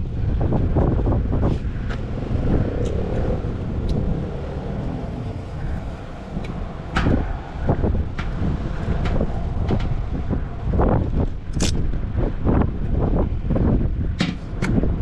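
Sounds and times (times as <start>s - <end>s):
car engine and road rumble: 0.0s - 15.0s
wind buffeting microphone: 0.0s - 15.0s.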